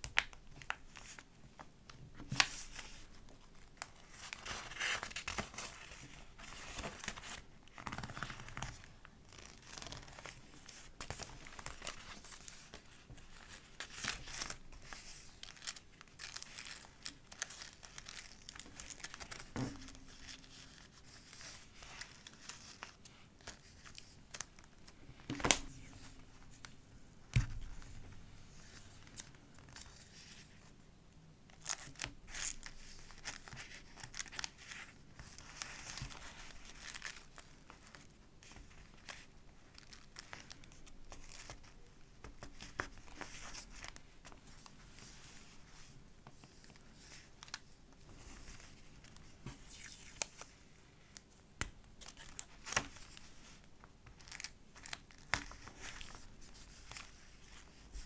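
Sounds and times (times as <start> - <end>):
paper rustling and crinkling: 0.0 - 30.7, 31.6 - 51.2, 52.0 - 58.0.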